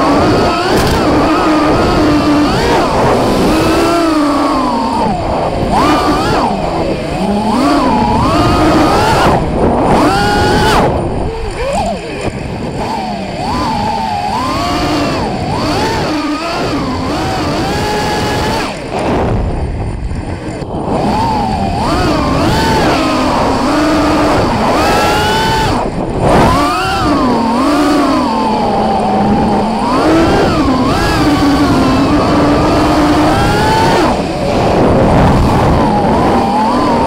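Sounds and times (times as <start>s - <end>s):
drone motors whining: 0.0s - 37.0s
wind rushing over microphone: 0.0s - 37.0s.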